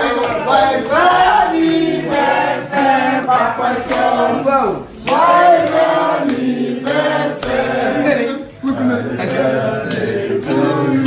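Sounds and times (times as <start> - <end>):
group singing in chorus: 0.0 - 11.0.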